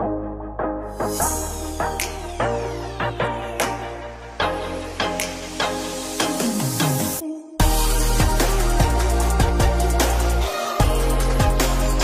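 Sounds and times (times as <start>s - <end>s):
steady synth bass: 0.0s - 12.0s.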